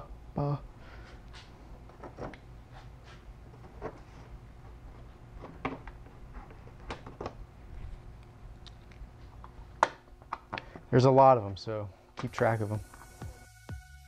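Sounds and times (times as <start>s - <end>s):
low steady hum: 0.0s - 13.4s.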